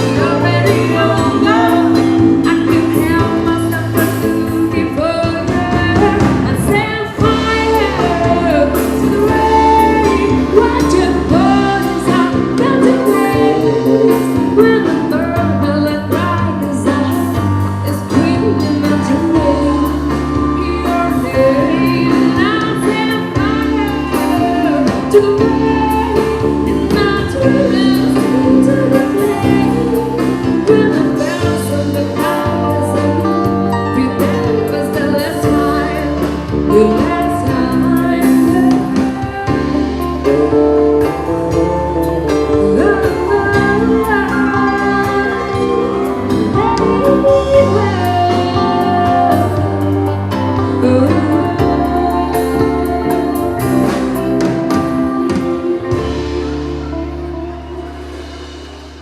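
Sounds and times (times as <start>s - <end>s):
person singing: 0.0s - 58.4s
brass band playing: 0.0s - 59.0s.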